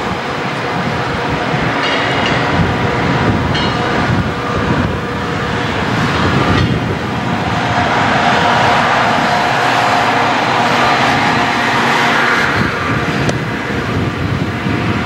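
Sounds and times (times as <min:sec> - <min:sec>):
train wheels clattering on rails: 0:00.5 - 0:13.4.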